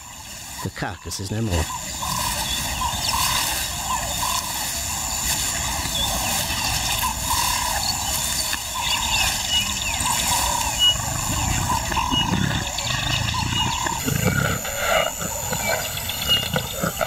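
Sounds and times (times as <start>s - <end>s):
steady low rumble: 1.2s - 17.0s
paws scraping dry earth: 1.4s - 17.0s.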